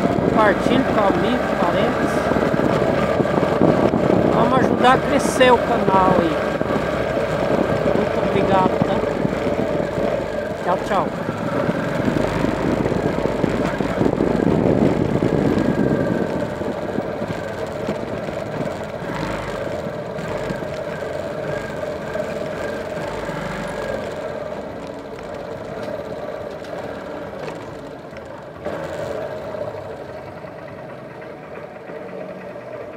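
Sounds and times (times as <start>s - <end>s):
wind rush on microphone: 0.0s - 28.0s
motorcycle engine running: 0.0s - 32.9s.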